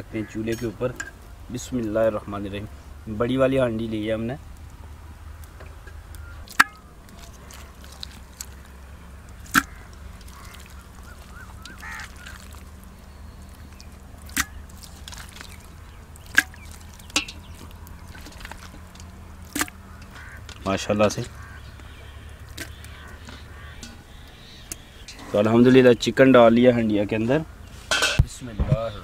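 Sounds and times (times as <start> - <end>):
low background noise: 0.0 - 29.0.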